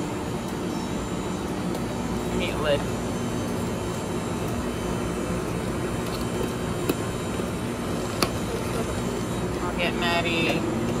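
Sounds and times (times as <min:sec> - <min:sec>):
slushie machine hum and whir: 0:00.0 - 0:11.0.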